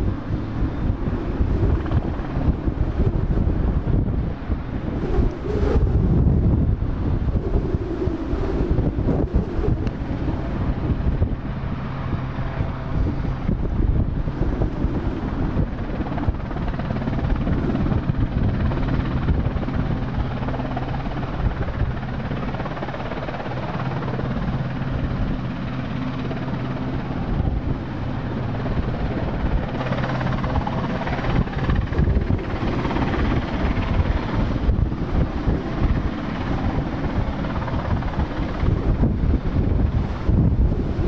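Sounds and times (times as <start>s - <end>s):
helicopter hovering drone: 0.0s - 41.0s.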